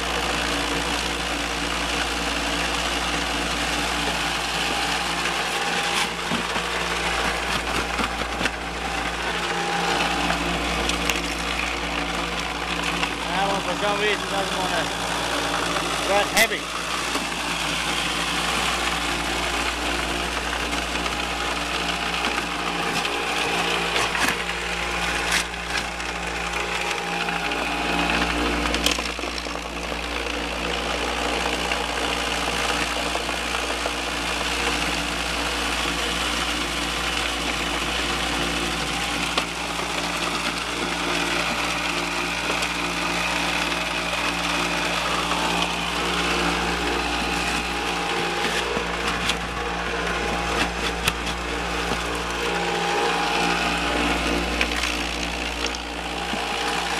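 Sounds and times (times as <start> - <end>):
mechanical drive hum: 1.0 - 56.9.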